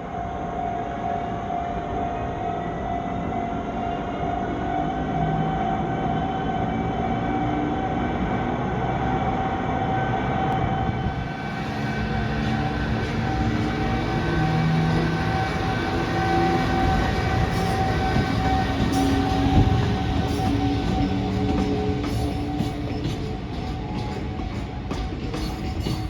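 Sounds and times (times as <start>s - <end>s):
freight train rumbling on rails: 0.0s - 26.0s
steady train whine: 0.0s - 26.0s.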